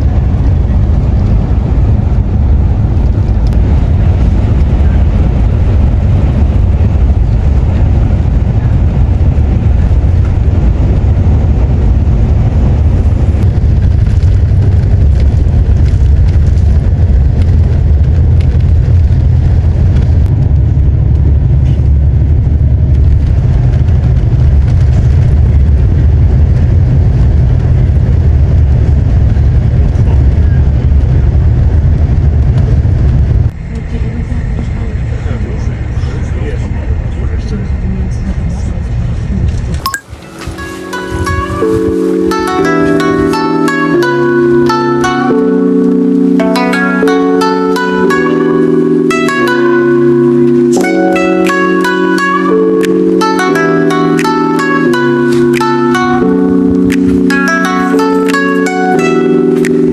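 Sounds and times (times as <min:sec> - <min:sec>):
moving vehicle rumble: 0:00.0 - 0:59.7.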